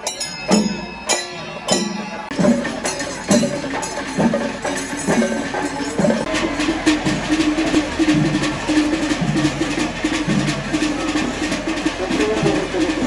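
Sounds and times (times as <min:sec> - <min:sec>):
drums beating: 0:00.0 - 0:13.0
hand cymbals ringing: 0:00.0 - 0:13.0.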